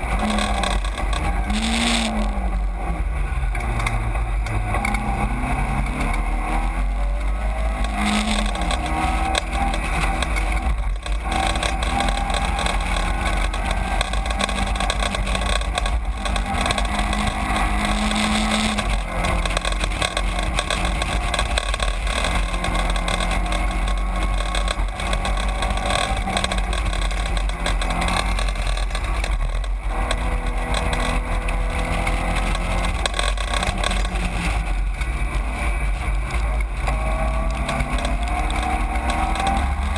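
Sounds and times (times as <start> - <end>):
racing car engine running hard: 0.0 - 39.9.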